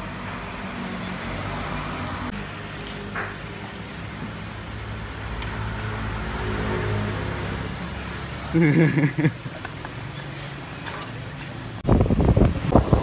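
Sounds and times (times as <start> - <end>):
road traffic noise: 0.0 - 13.0
vehicle engine humming: 0.0 - 13.0.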